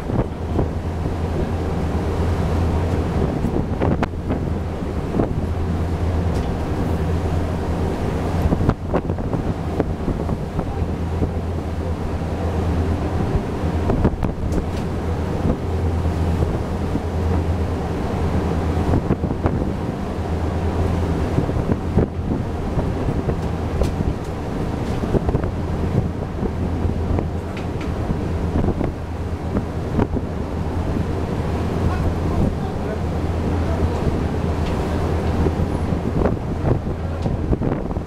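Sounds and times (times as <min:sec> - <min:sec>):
sea rushing: 0:00.0 - 0:38.0
ship engine drone: 0:00.0 - 0:38.0
wind buffeting microphone: 0:00.0 - 0:38.0.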